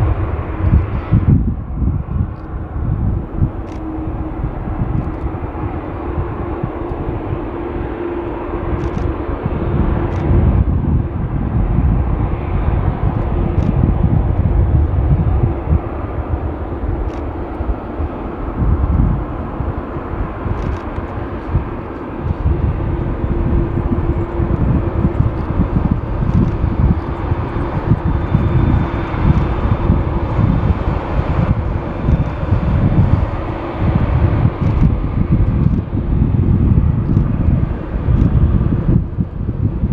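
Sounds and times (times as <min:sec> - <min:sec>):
jet engines rumbling: 0:00.0 - 0:39.9
wind rumble on microphone: 0:00.0 - 0:39.9.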